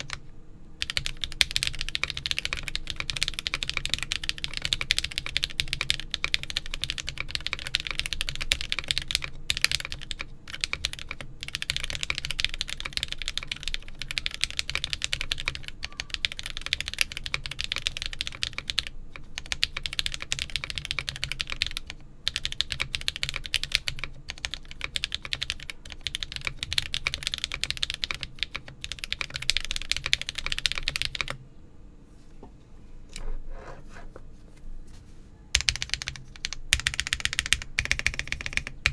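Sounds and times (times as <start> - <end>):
fast mechanical keyboard typing: 0.0 - 0.2, 0.8 - 31.4, 35.6 - 38.9.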